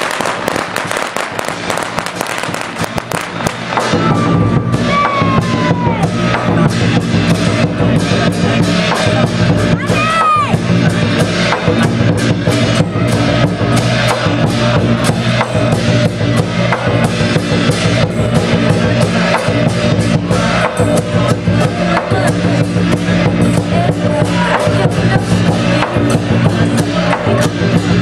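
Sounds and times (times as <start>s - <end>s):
big drum beating: 0.0s - 28.0s
clashing cymbals: 0.0s - 28.0s.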